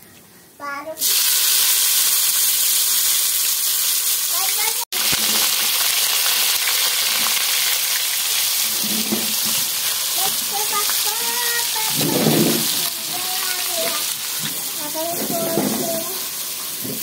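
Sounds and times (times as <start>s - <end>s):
onions sizzling in hot oil: 1.0s - 17.0s.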